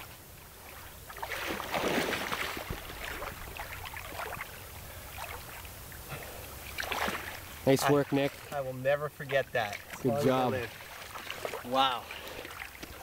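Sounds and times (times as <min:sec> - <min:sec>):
water splashing against a boat: 0:00.0 - 0:13.0.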